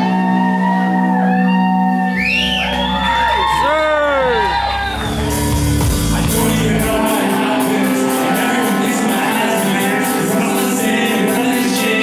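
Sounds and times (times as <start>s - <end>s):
deep bass: 0.0s - 10.4s
loud live music: 0.0s - 12.0s.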